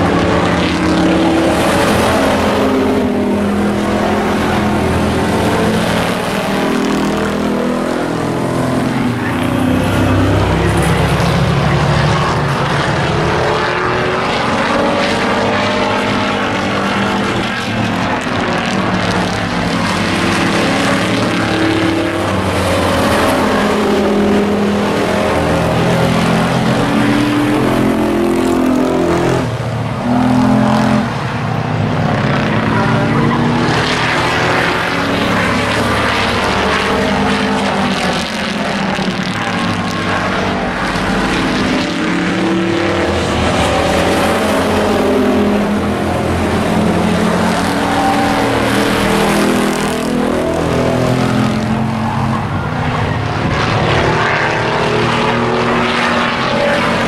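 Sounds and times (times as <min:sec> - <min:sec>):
racing truck engines: 0:00.0 - 0:57.0.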